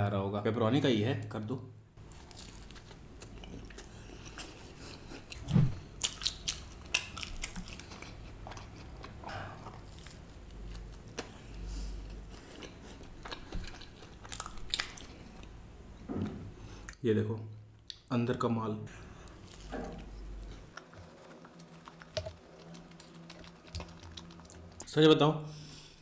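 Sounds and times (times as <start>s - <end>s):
man chewing food: 2.0s - 17.0s, 19.0s - 24.9s.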